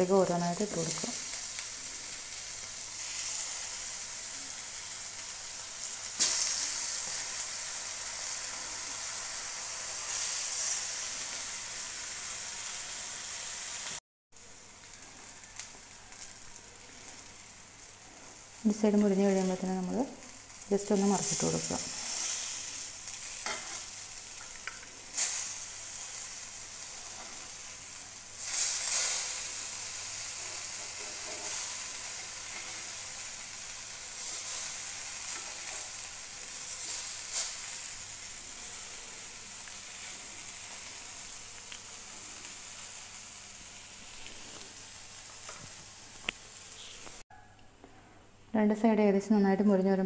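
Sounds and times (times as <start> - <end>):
frying sizzle: 0.0 - 47.2.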